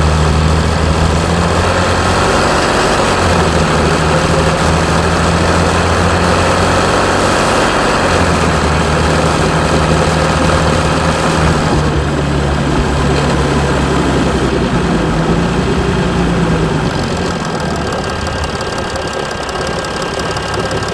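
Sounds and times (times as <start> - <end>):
diesel engine idling with clatter: 0.0 - 20.9.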